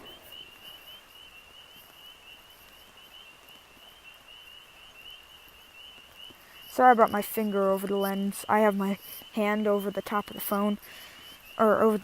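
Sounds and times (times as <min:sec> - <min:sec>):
faint rain falling: 0:00.0 - 0:12.0.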